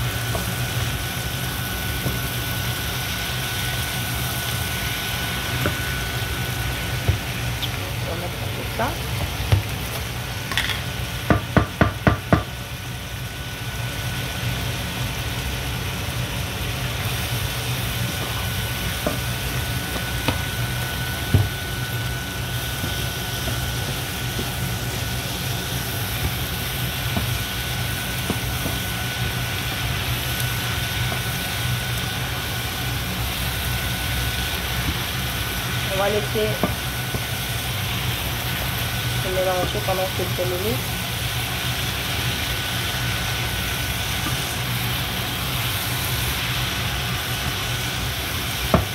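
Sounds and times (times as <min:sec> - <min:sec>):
vegetables sizzling in a pan: 0:00.0 - 0:48.9.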